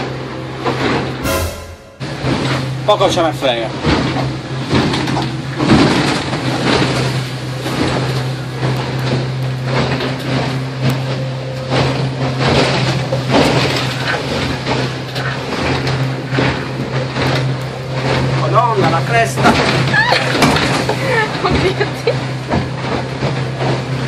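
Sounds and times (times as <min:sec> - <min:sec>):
outboard engine droning: 0:00.0 - 0:01.4, 0:02.0 - 0:24.0
waves splashing against hull: 0:04.6 - 0:24.0.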